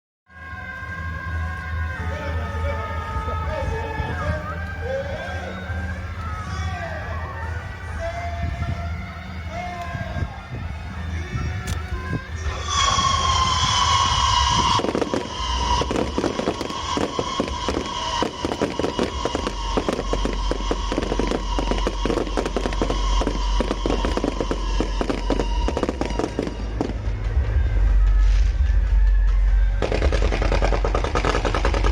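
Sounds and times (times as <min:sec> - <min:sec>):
firework shrill whistle: 0:00.3 - 0:31.9
firework crackling and popping: 0:01.2 - 0:31.9.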